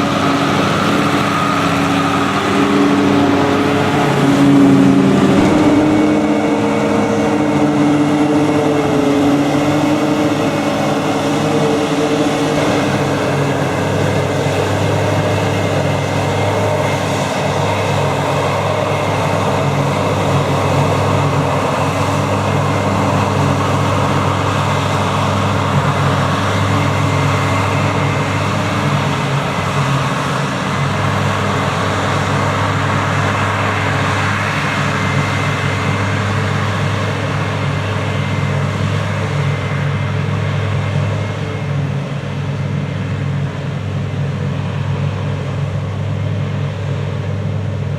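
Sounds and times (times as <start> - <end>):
diesel engines running under load: 0.0 - 47.9
higher engine note: 0.0 - 47.9.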